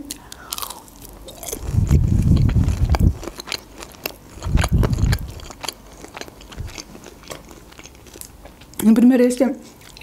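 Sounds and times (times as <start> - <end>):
chewing crunchy breaded chicken: 0.1 - 8.9.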